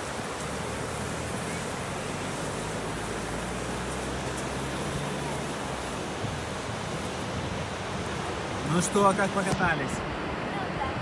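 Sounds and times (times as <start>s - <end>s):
car engine hum: 0.0s - 9.9s
ocean surf: 0.0s - 11.0s
wind: 0.0s - 11.0s.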